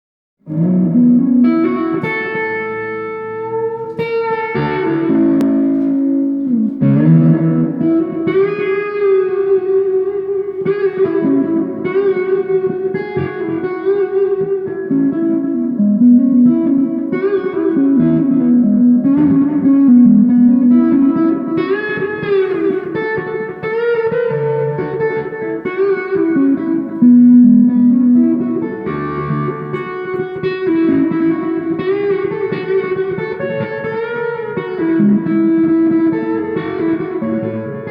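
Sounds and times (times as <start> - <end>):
electric guitar solo: 0.4 - 37.9.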